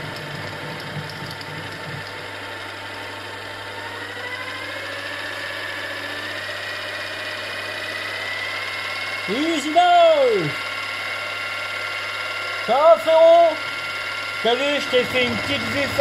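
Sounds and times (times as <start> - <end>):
milling machine motor whining: 0.0 - 16.0.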